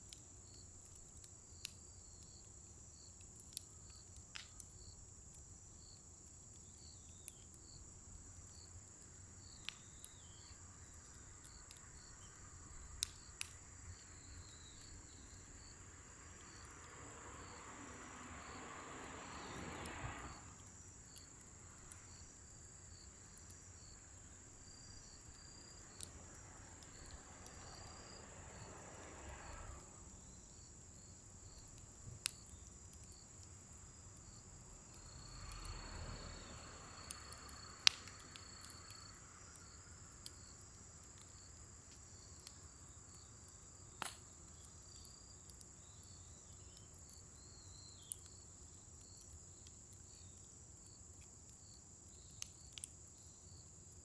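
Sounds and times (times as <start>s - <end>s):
crickets trilling: 0.0s - 54.0s
wood fire crackling and popping: 0.0s - 54.0s.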